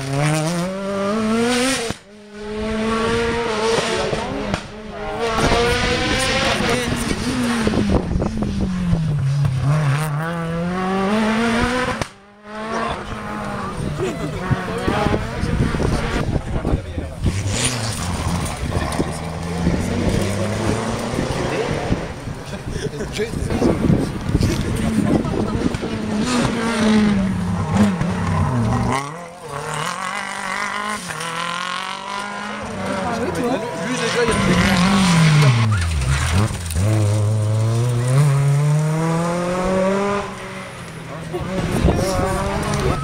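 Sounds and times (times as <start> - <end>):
rally car engine passing: 0.0 - 43.0.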